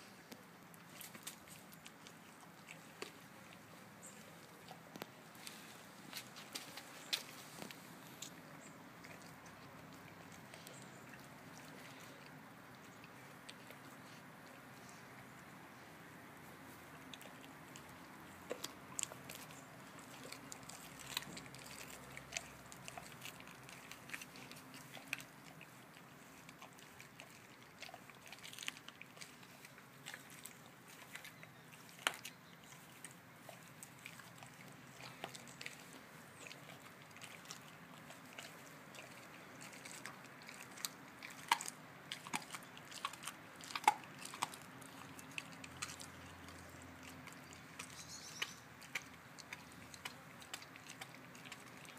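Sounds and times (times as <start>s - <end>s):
dog chewing bones: 0.8s - 15.0s, 16.7s - 51.9s.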